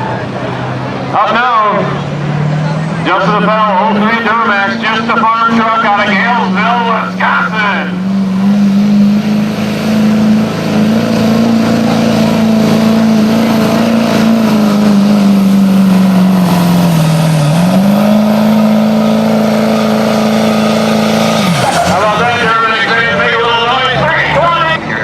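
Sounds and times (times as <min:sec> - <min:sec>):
diesel pickup engine under load: 0:00.0 - 0:25.0.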